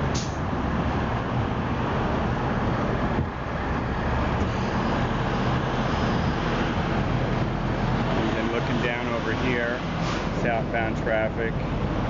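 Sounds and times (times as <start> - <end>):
freeway traffic noise: 0.0 - 12.0.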